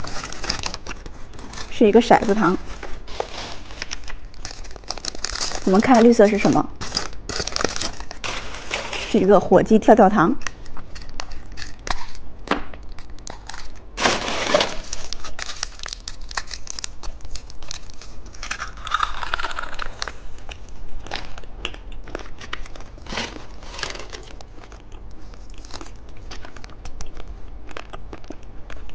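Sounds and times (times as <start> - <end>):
plastic wrappers crinkling: 0.0 - 9.7, 10.4 - 12.2, 12.9 - 28.4.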